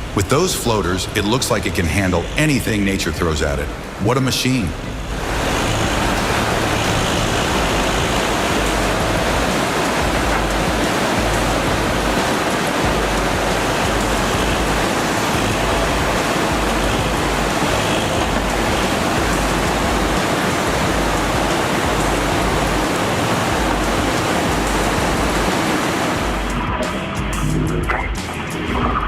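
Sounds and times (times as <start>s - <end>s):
loud steady rushing noise: 0.0s - 29.0s
low rumbling pulses: 4.7s - 29.0s.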